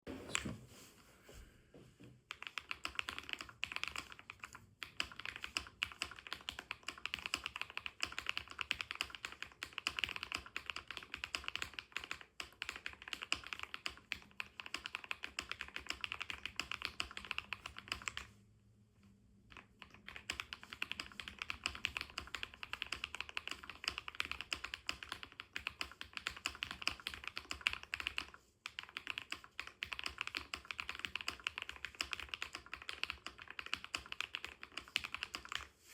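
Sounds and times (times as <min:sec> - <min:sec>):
mechanical keyboard typing: 0:02.3 - 0:18.3, 0:19.5 - 0:35.7.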